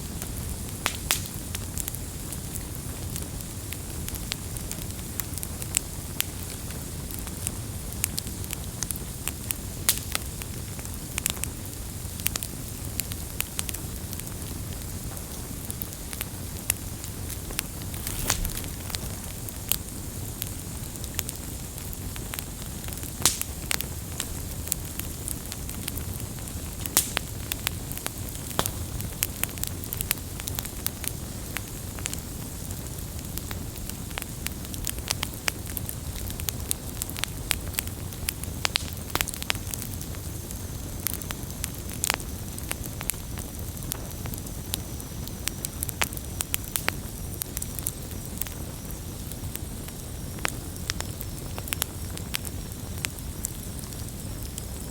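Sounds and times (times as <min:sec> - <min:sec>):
campfire popping and crackling: 0:00.0 - 0:54.9
fire low rumble: 0:00.0 - 0:54.9.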